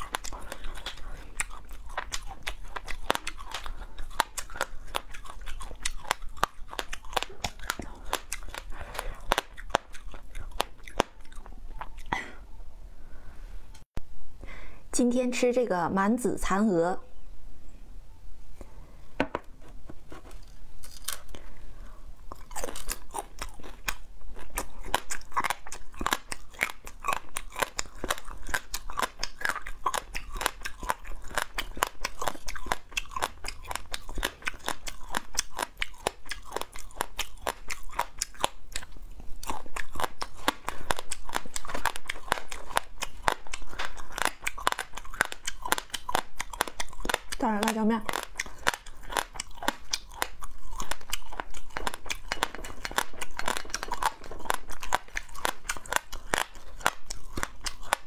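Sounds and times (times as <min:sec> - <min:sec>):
crunching crispy food: 0:00.0 - 0:12.0, 0:20.3 - 0:58.0.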